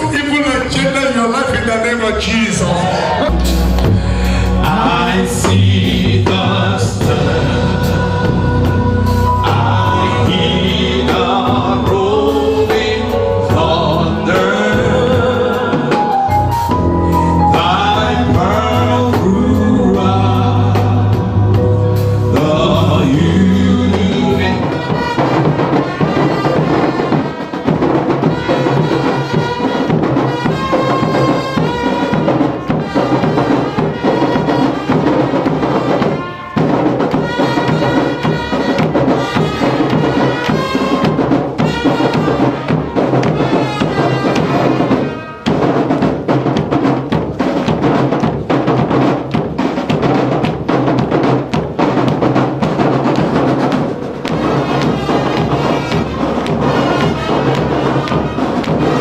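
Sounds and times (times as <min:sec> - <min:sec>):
music with drums and percussion: 0:03.1 - 0:59.0.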